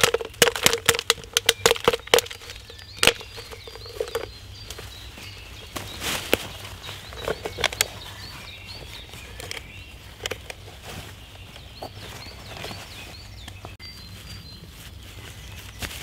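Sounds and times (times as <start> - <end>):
small birds chirping: 0.0 - 16.0
feet shifting on dry leaves: 2.3 - 16.0.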